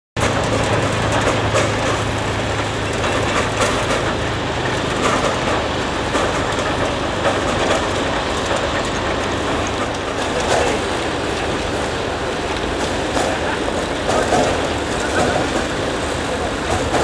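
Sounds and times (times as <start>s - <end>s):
steam train rumbling: 0.2s - 17.0s
wagon clanks and clicks: 0.2s - 17.0s.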